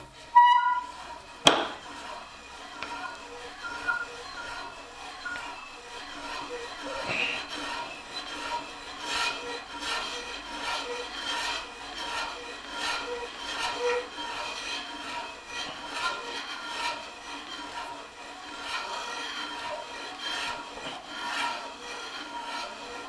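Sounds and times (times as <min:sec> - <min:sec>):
drill bit rasping through wood: 0:00.0 - 0:23.0.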